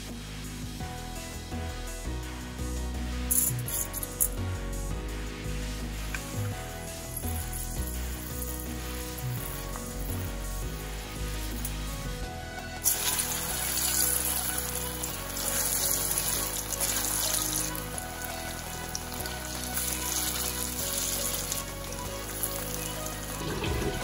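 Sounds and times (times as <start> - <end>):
background music: 0.0 - 24.0
seeds sizzling faintly in oil: 3.4 - 24.0
food sizzling in hot oil: 3.5 - 12.0, 12.7 - 24.0.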